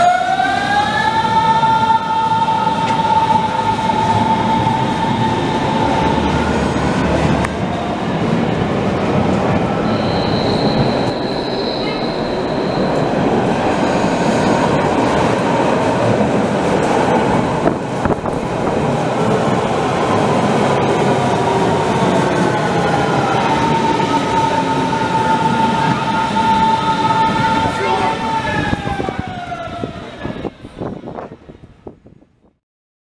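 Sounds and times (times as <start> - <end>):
train wheels rumbling on rails: 0.0 - 32.4.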